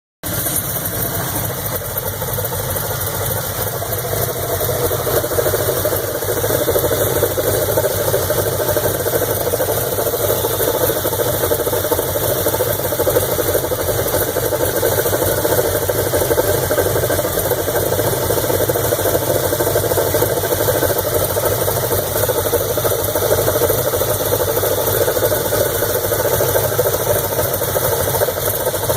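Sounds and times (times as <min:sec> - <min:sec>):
car engine idling: 0:00.2 - 0:28.9.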